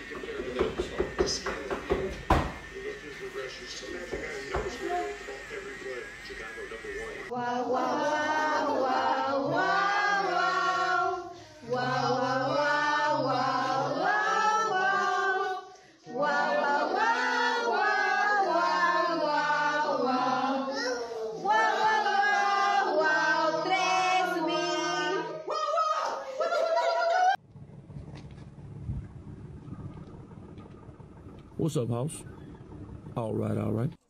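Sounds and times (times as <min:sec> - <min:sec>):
group of voices singing: 0:00.0 - 0:27.3.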